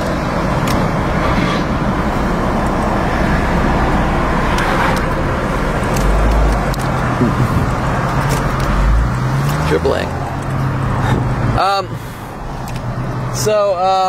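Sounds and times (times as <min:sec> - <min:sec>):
road traffic noise: 0:00.0 - 0:14.0
deep rumble: 0:00.1 - 0:12.5.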